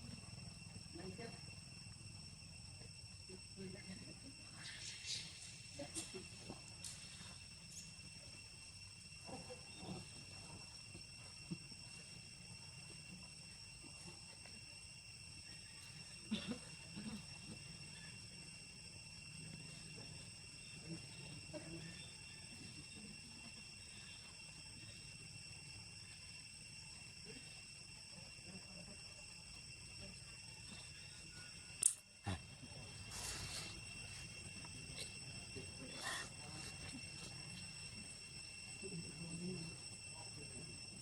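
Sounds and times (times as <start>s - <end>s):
insects shrilling: 4.3s - 41.0s.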